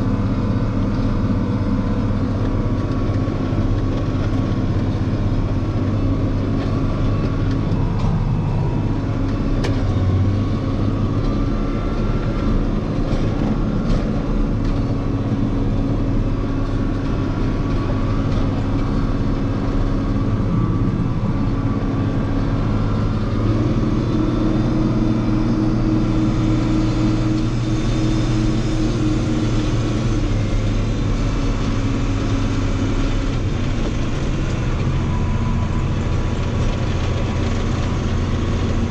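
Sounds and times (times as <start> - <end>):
diesel engine droning: 0.0 - 38.9
higher engine tone: 0.0 - 38.9.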